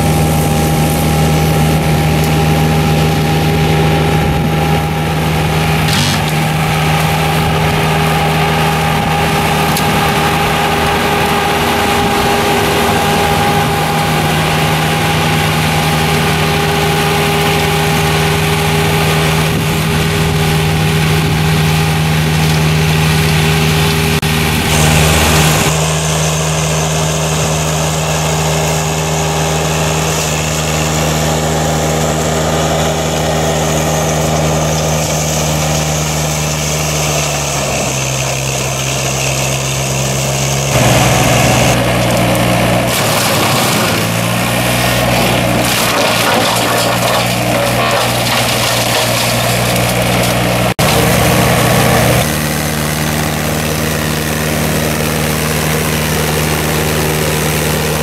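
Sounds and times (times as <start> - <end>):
tracked mulcher engine hum: 0.0 - 58.0.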